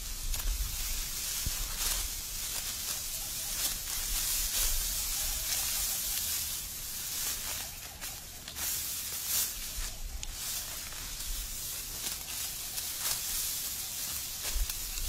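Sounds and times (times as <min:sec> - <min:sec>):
sickles cutting dry wheat: 0:00.0 - 0:15.0.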